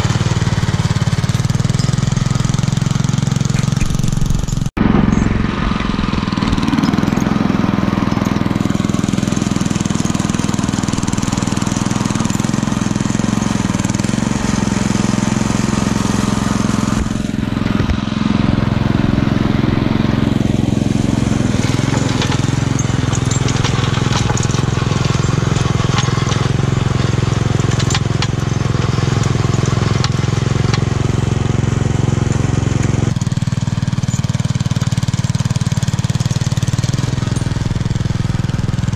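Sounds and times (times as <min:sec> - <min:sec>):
small engine running: 0:00.0 - 0:38.9
tine scraping and crunching snow: 0:00.0 - 0:38.9.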